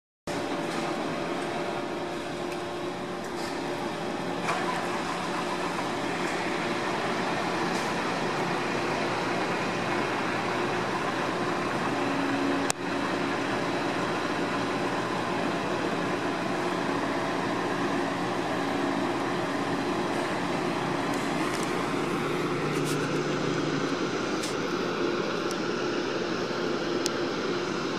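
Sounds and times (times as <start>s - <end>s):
diesel engines idling: 0.3s - 27.9s.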